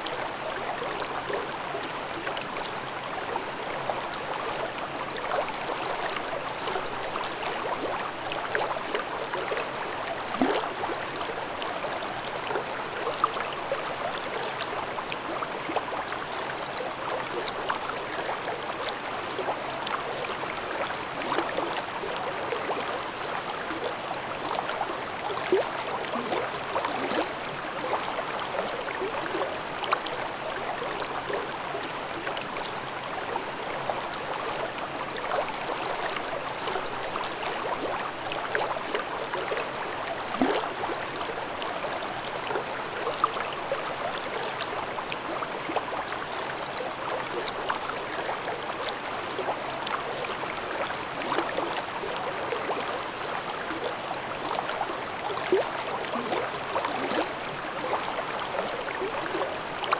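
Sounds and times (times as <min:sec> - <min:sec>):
stream babbling over rocks: 0:00.1 - 0:59.9.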